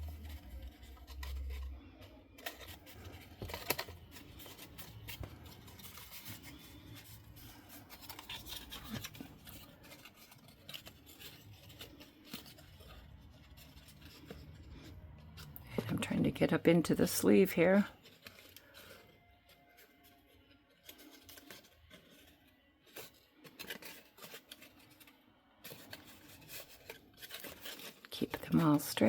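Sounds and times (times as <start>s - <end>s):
stiff paper rustling and scraping: 0.0s - 29.0s.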